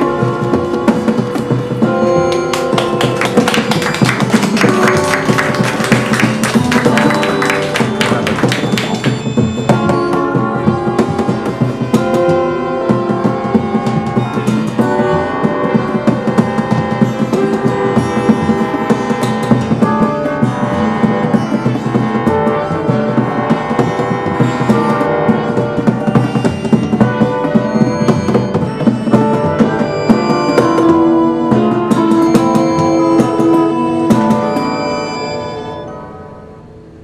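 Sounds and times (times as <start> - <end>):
drums struck in uneven beats: 0.0 - 34.8
plucked strings: 0.0 - 35.0.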